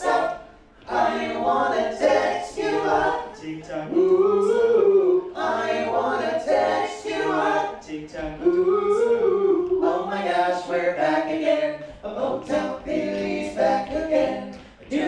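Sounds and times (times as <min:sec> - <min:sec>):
male a cappella group singing: 0:00.0 - 0:15.0.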